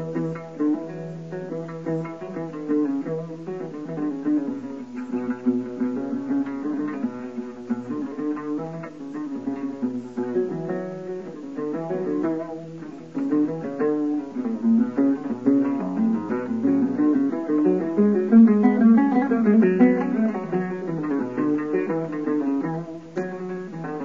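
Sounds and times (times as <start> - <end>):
acoustic guitar melody: 0.0 - 24.0.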